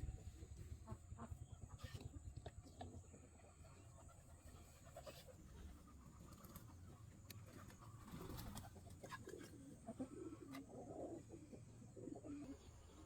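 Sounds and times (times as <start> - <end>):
faint low cooing bird calls: 0.0 - 13.0.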